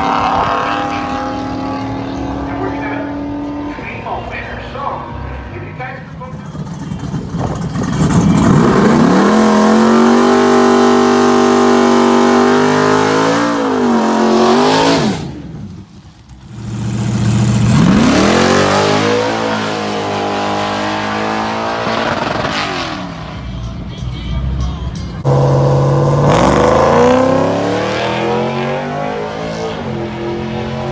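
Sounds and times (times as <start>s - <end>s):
truck engine revving at full throttle: 0.0s - 23.5s, 25.2s - 30.9s.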